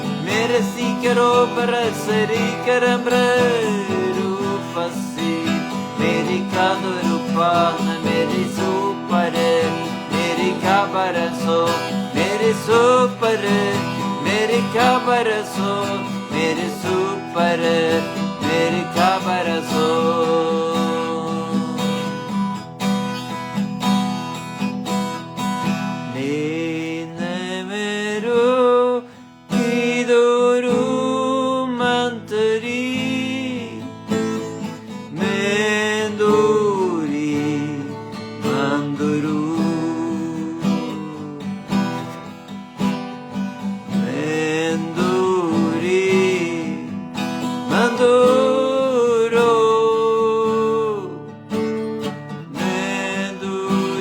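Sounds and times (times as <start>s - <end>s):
slow acoustic guitar music: 0.0s - 54.0s.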